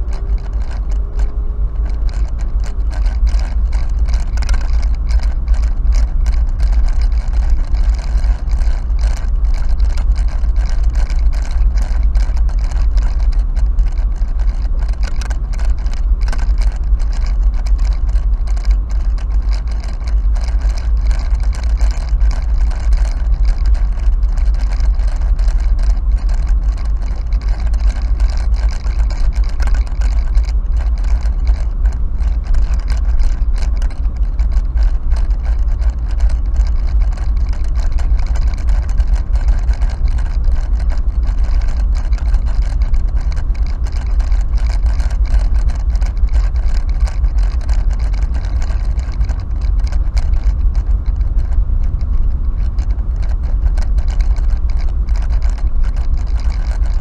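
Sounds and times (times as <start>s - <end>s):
car engine and road rumble: 0.0s - 57.0s
rapid rattling clicks: 0.0s - 57.0s.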